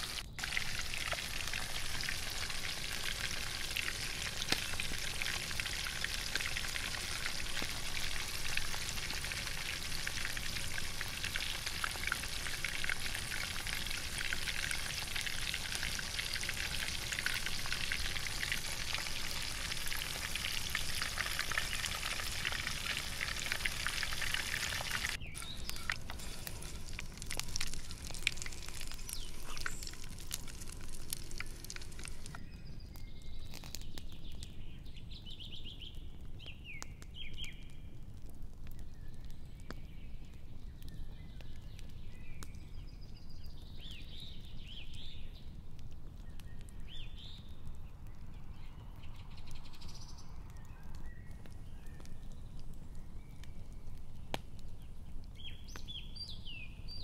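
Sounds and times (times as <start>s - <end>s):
meat deep-frying in oil: 0.0s - 57.0s.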